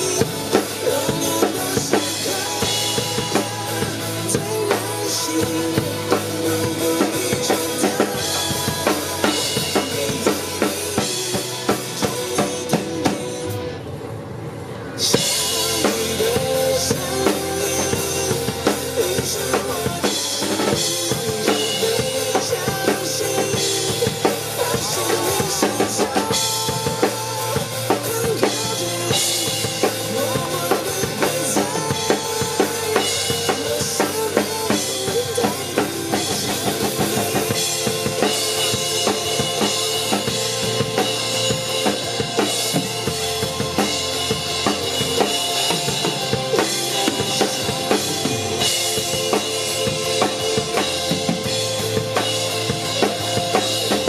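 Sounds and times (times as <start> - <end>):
acoustic drum kit: 0.0 - 13.8, 15.0 - 54.0
pop backing track: 0.0 - 13.8, 15.0 - 54.0.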